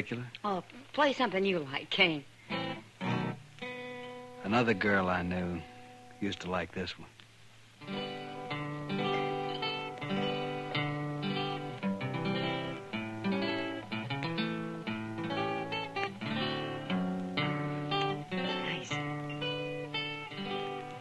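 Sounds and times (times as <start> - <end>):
acoustic guitar playing: 1.0 - 7.0, 7.7 - 21.0.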